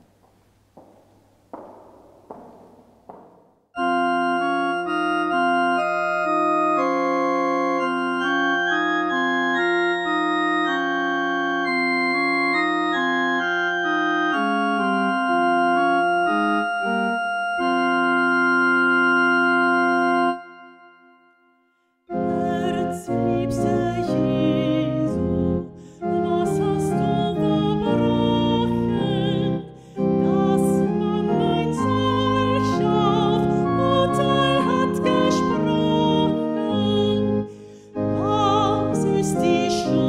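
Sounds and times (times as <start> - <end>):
church organ chords: 3.8 - 21.5, 22.1 - 40.0.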